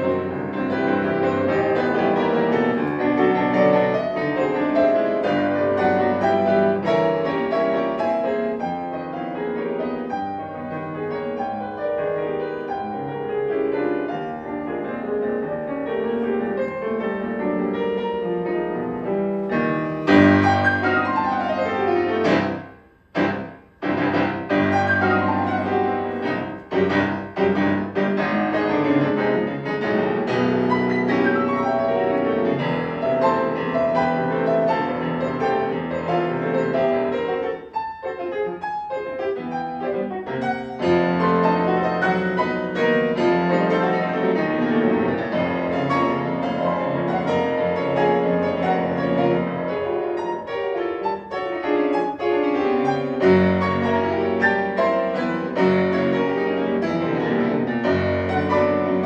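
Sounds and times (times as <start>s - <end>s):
solo classical piano: 0.0s - 59.0s.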